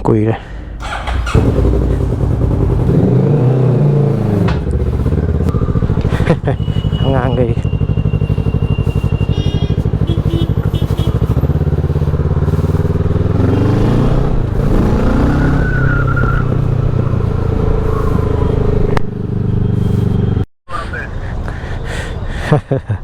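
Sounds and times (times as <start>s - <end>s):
motorcycle engine idling and revving: 0.8s - 20.5s.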